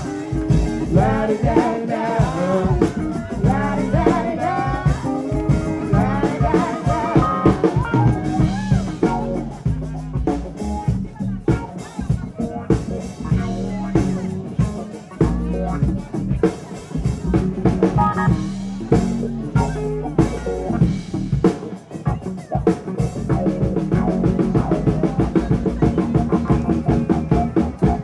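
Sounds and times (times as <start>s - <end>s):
music with drum beat and bass: 0.0s - 28.0s.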